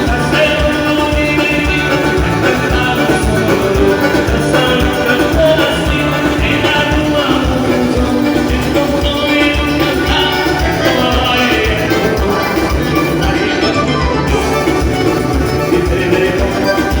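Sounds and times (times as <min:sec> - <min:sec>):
band playing upbeat dance music: 0:00.0 - 0:17.0.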